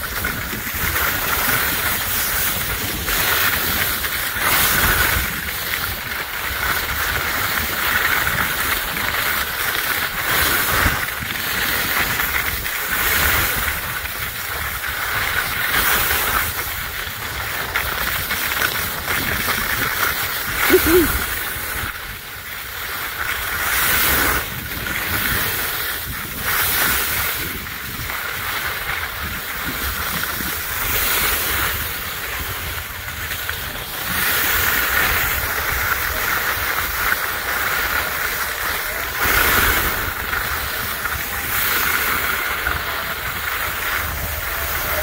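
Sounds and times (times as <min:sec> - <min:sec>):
skis scraping on icy snow: 0:00.0 - 0:45.0
wind rumble on microphone: 0:00.0 - 0:45.0.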